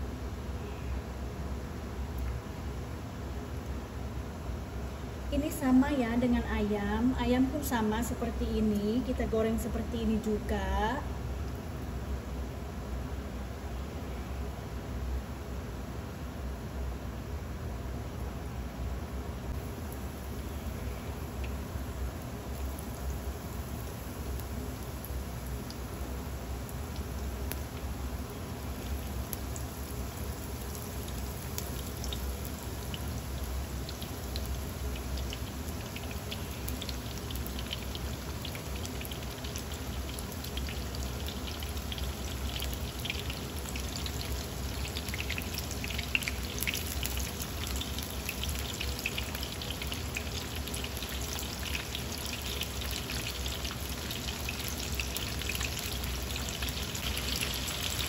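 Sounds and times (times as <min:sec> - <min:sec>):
deep-frying sizzle and crackling: 0:00.0 - 0:13.8, 0:14.4 - 0:58.0.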